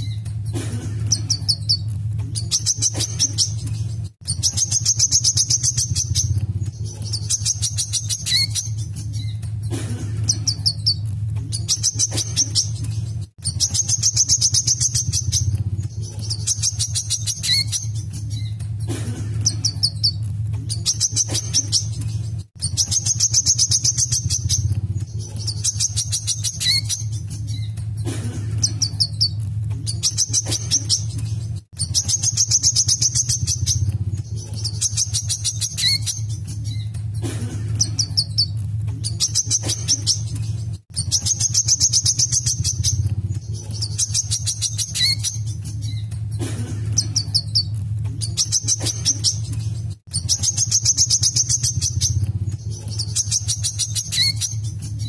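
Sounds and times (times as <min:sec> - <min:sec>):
bird singing rapid trills: 0:00.0 - 0:46.4, 0:47.0 - 0:55.0
steady low hum: 0:00.0 - 0:55.0.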